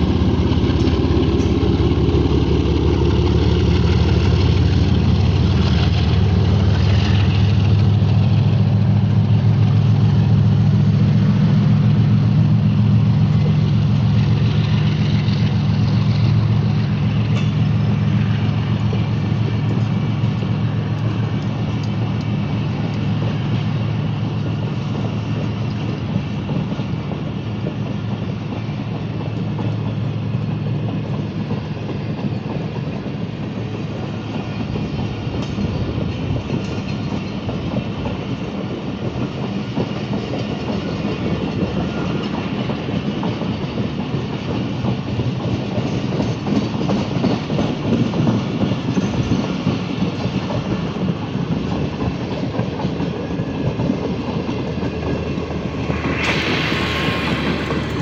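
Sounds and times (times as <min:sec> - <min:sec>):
train wheels clickety-clack: 0:00.0 - 0:58.0.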